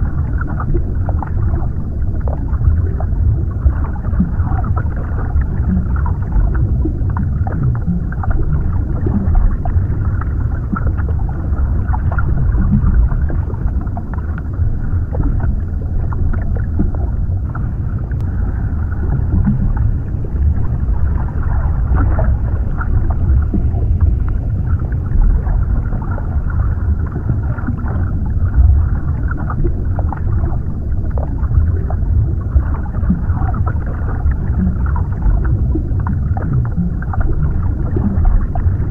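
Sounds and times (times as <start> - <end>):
dull wash of water: 0.0 - 38.9
muffled underwater rumble: 0.0 - 38.9.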